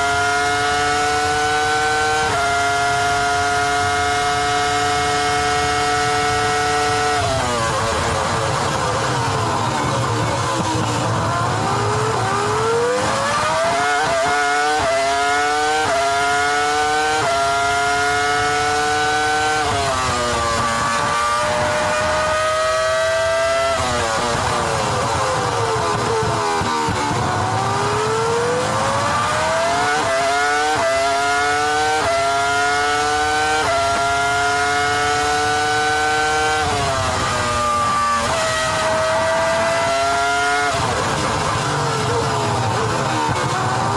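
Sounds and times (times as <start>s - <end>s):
racing car engine revving: 0.0s - 43.9s.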